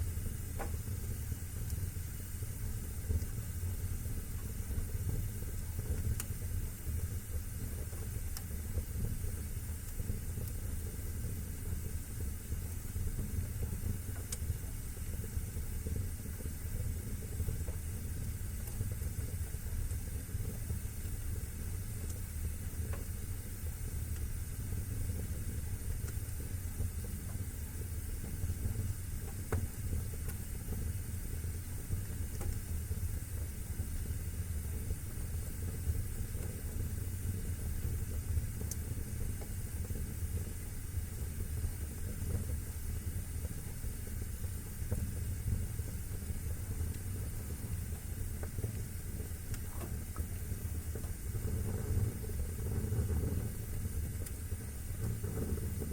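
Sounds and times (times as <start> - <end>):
faint fire crackles: 0.0 - 55.9
fire rumble and hiss: 0.0 - 55.9.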